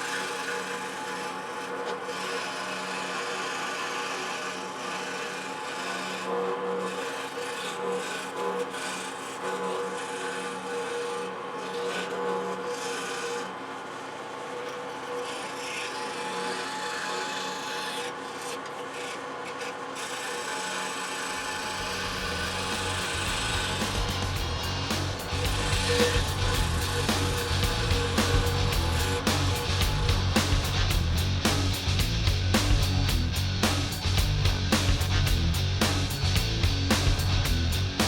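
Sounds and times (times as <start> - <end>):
scroll saw cutting wood: 0.0 - 38.0.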